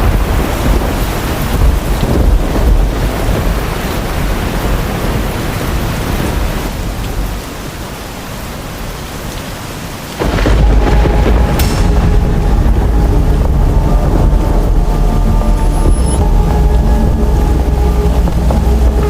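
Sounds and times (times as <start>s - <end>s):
thunder rumbling: 0.0s - 7.9s, 10.1s - 19.0s
heavy rain: 0.0s - 19.0s.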